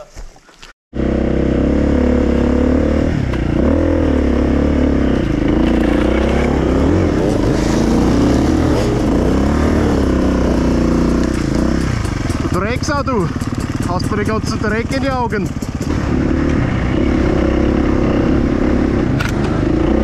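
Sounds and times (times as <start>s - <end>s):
dirt bike engine revving: 1.0s - 20.0s.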